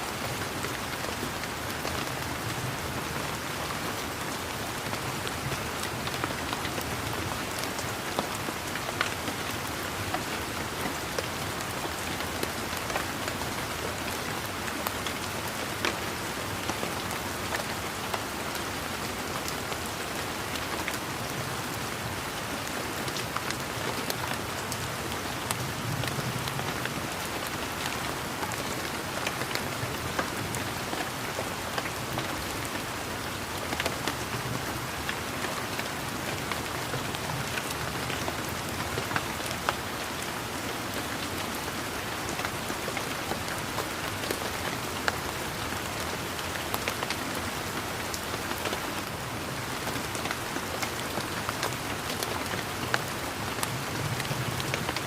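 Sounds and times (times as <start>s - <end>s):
rain pattering on foliage: 0.0s - 55.0s.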